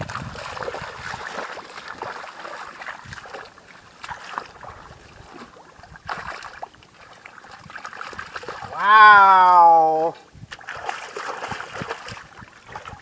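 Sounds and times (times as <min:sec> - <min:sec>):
hands sloshing in muddy water: 0:00.0 - 0:13.0.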